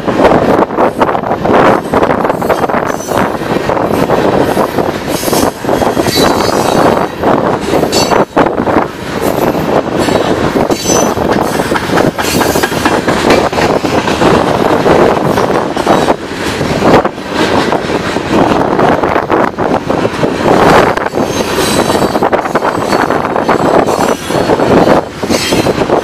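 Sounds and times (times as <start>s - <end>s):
train cars clanking: 0.0s - 26.0s
train wheels rumbling on rails: 0.0s - 26.0s.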